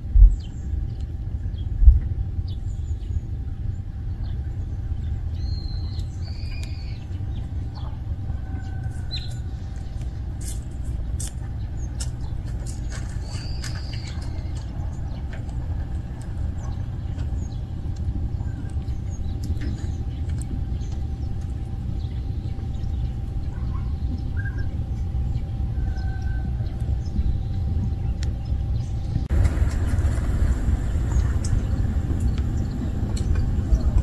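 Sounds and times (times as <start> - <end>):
bird chirps: 0.0 - 34.0
faint hum: 0.0 - 34.0
low rumble: 0.0 - 34.0.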